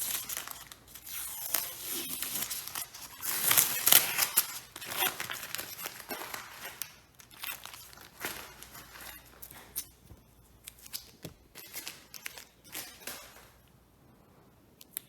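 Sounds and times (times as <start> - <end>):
rustling and scraping handling: 0.0 - 14.6.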